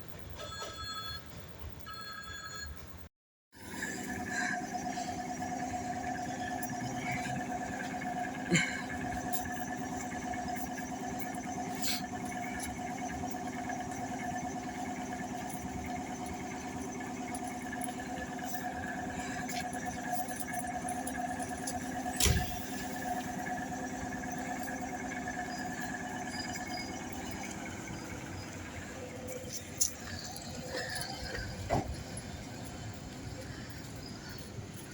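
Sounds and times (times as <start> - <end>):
train machinery humming: 3.6 - 34.9.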